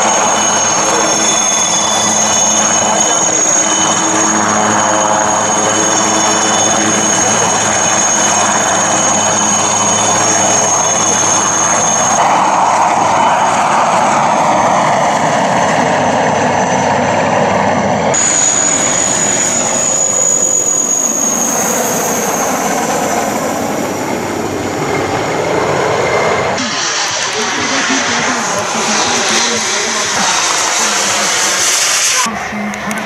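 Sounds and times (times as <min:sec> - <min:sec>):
helicopter rotors rushing: 0:00.0 - 0:33.0
helicopter turbine whine: 0:00.0 - 0:33.0.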